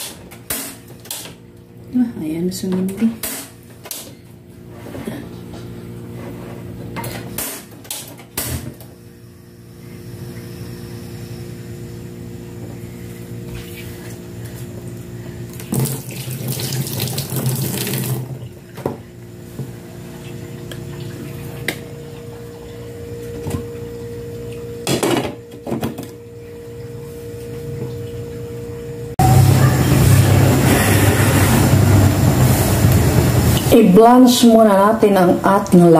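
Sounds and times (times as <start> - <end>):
steady low hum: 0.0 - 16.5, 18.2 - 35.9.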